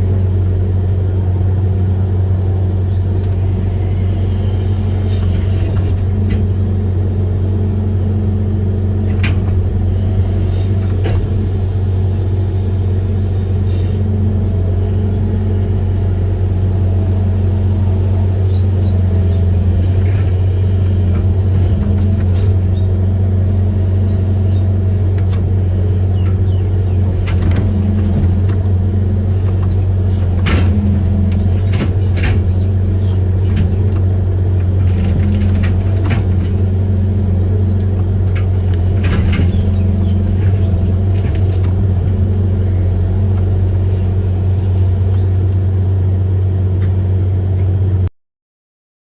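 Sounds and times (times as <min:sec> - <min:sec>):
diesel engine droning: 0:00.0 - 0:48.1.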